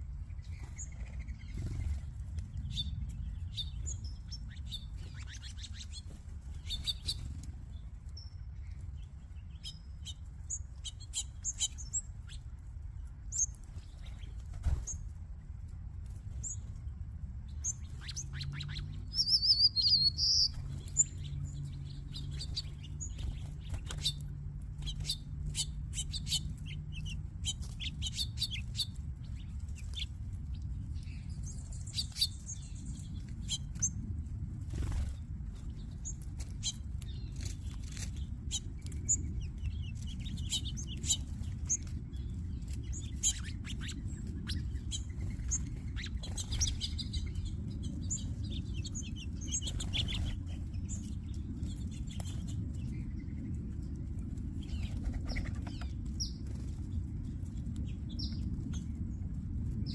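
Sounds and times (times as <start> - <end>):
low background rumble: 0.0 - 59.9
small birds chirping: 0.0 - 59.9.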